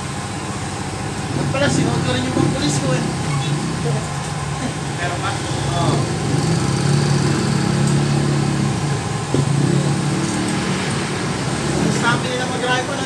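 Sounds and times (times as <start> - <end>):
passing motorcycle engines: 1.2 - 13.0.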